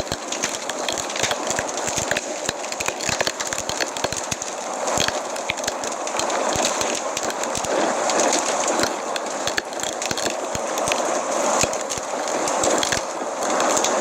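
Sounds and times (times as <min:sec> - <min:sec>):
sharp pops: 0:00.0 - 0:14.0
wood fire crackling: 0:00.0 - 0:14.0.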